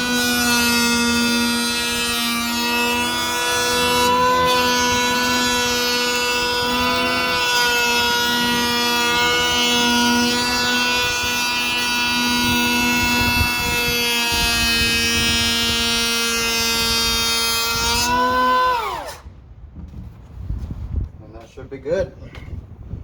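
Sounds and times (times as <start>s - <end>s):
handheld planer whining: 0.0s - 19.3s.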